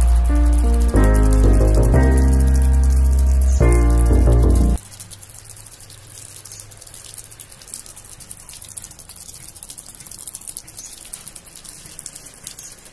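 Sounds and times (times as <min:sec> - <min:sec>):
water trickling and splashing: 0:00.0 - 0:12.9.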